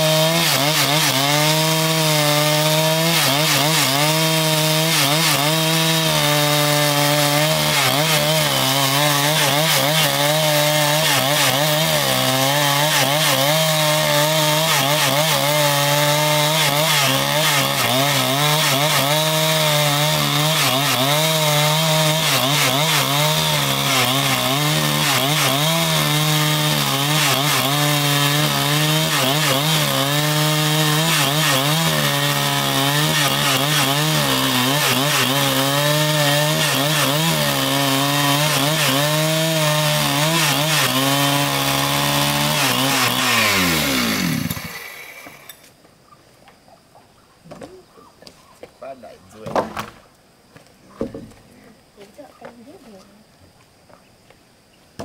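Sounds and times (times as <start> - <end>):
chainsaw cutting a log: 0.0 - 45.6.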